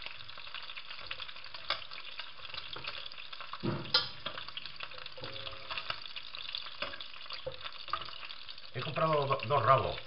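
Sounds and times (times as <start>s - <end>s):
meat sizzling with crackles: 0.0s - 10.0s.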